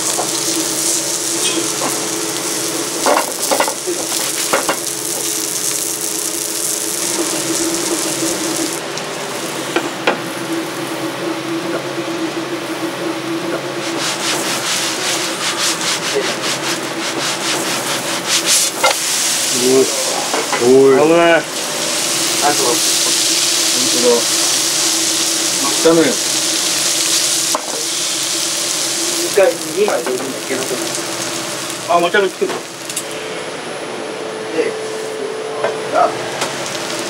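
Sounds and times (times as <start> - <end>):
meat sizzling in a pan: 0.0 - 33.5, 36.3 - 37.0.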